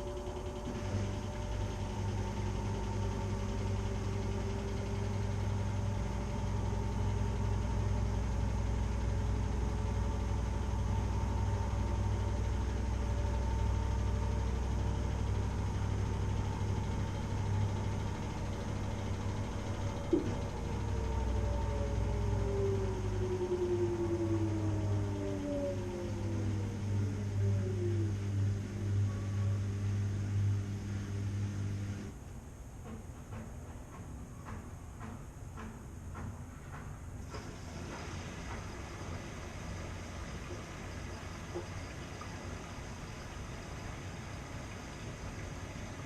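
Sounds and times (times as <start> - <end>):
washing machine running: 0.0 - 46.0.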